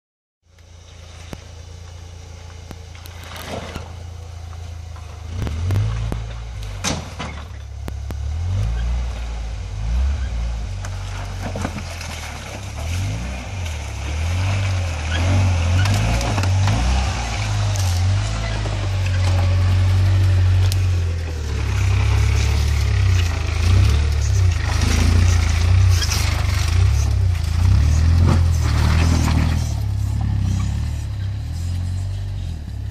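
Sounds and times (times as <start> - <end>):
vehicle engine at low revs: 0.4 - 32.9.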